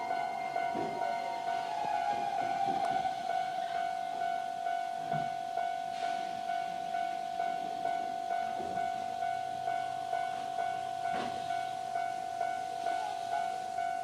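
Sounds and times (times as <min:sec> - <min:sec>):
level-crossing alarm bell: 0:00.0 - 0:14.0.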